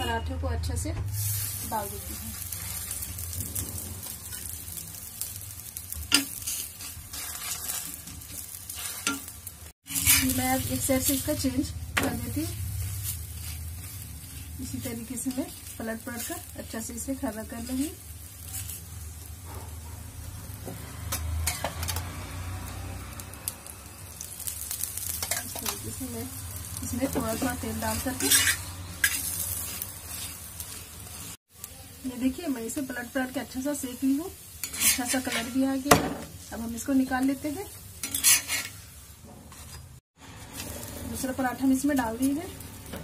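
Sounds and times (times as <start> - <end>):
oil sizzling under frying flatbread: 0.0 - 43.0.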